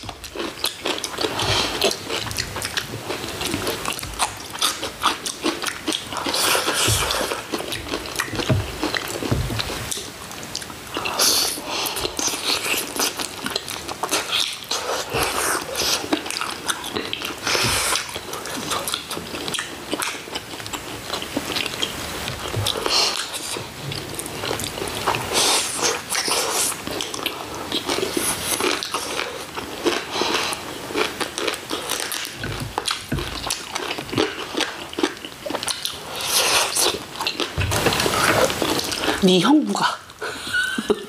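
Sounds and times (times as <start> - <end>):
person biting and chewing food: 0.0 - 39.2.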